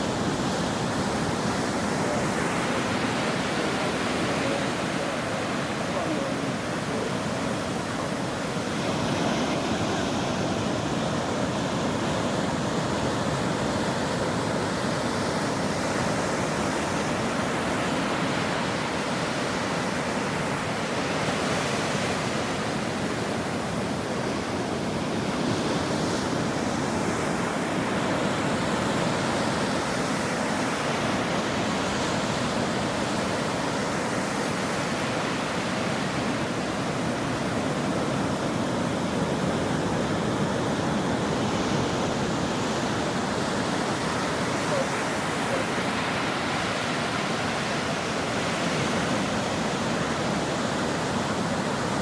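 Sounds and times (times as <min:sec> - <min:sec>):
ocean waves breaking on shore: 0:00.0 - 0:52.0.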